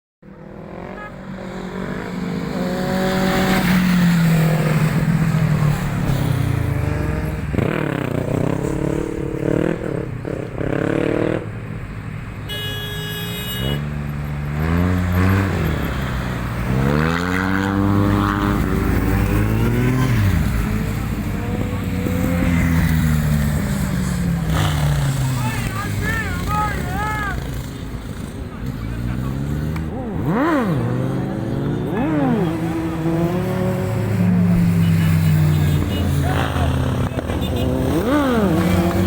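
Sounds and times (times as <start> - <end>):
motorcycle engines revving: 0.2 - 39.0.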